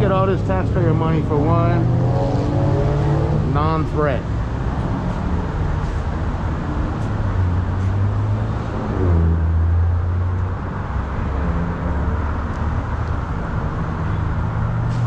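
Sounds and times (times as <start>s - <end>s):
traffic noise: 0.0s - 15.0s
vehicle engines rumbling: 0.0s - 15.0s.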